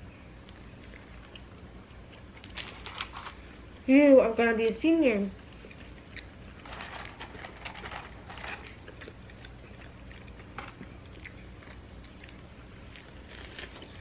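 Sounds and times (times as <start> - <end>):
people chewing food: 0.0 - 3.8, 5.4 - 14.0.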